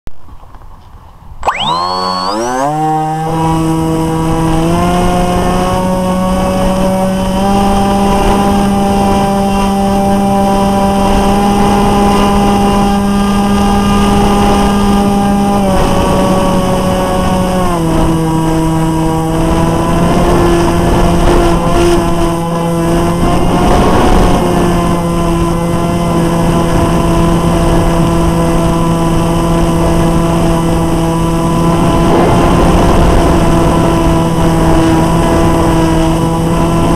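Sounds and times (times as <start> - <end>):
electric motor whine: 1.4 - 36.9.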